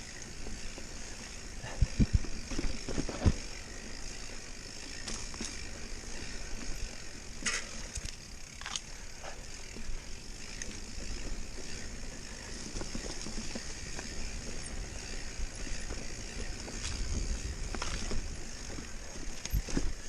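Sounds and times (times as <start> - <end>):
bike clicks and rattles: 0.0 - 20.0
mountain bike tyre noise: 0.0 - 20.0.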